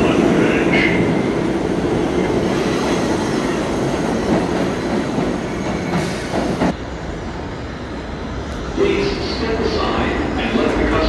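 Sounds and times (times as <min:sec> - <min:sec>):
subway train rumbling over rails: 0:00.0 - 0:11.0.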